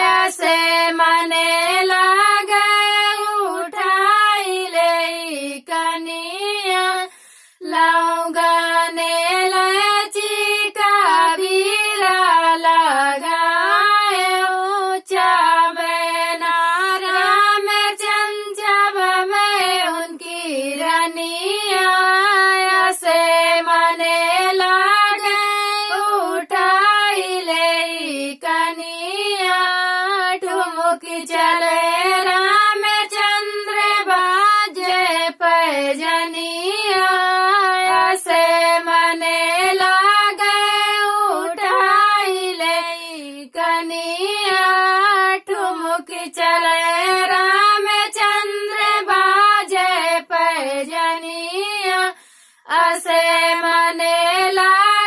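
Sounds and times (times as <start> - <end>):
women singing folk song: 0.0 - 55.0.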